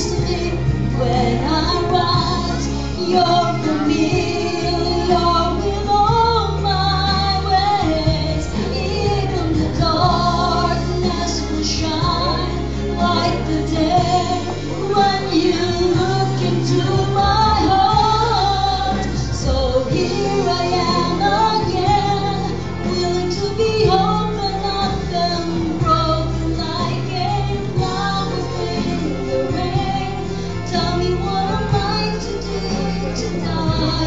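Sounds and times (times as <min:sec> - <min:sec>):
instrumental accompaniment: 0:00.0 - 0:34.0
woman singing into a microphone: 0:00.0 - 0:34.0.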